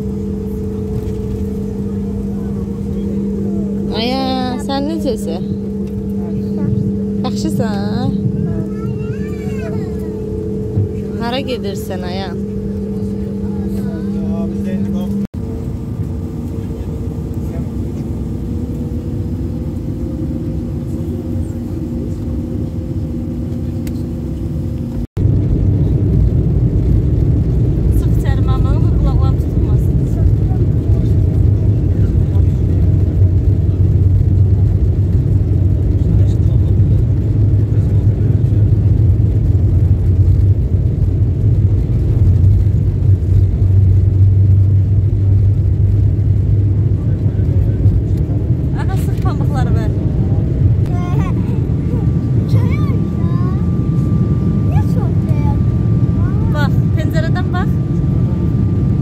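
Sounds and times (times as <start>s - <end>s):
airliner engine hum in cabin: 0.0s - 59.0s.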